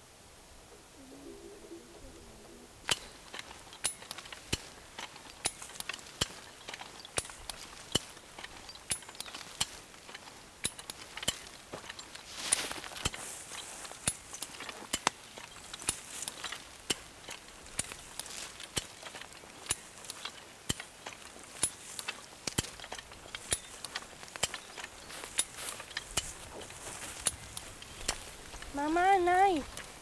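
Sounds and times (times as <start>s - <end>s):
jack ratchet clicking: 2.9s - 28.7s.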